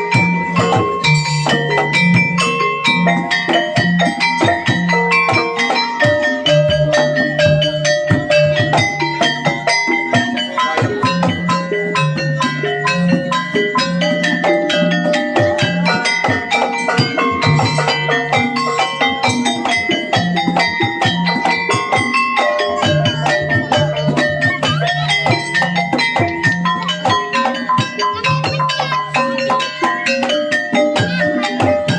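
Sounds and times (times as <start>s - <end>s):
gamelan metal keys and gongs: 0.0s - 31.9s.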